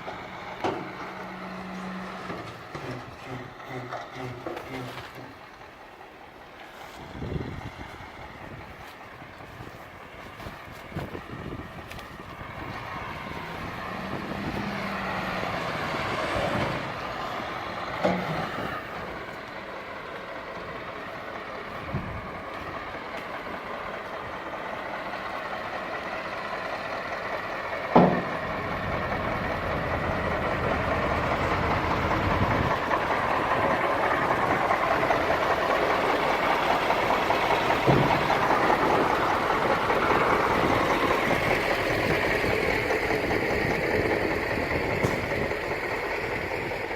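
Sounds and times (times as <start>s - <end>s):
heavy machinery engine: 0.0s - 46.9s.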